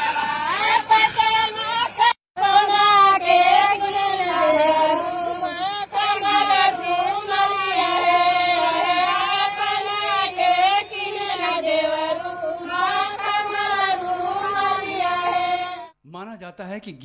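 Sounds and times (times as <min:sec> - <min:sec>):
women singing folk song: 0:00.0 - 0:16.0.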